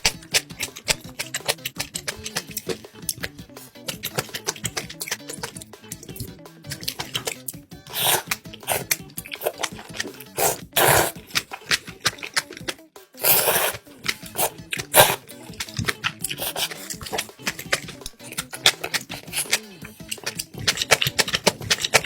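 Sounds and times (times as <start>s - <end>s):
background music: 0.0s - 22.0s
noodles slurped: 0.0s - 22.0s
wet chewing and crunching: 0.0s - 22.0s.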